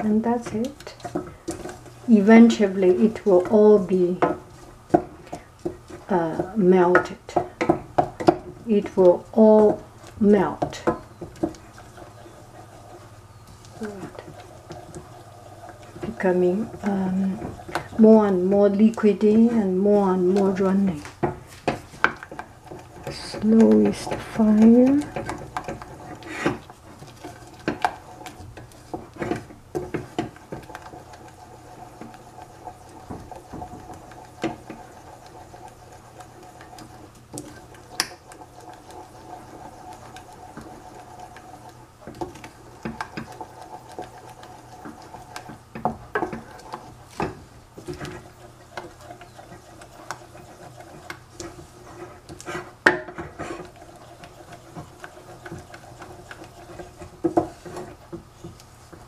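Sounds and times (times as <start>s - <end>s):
wooden spoon scraping saucepan: 0.0s - 59.0s.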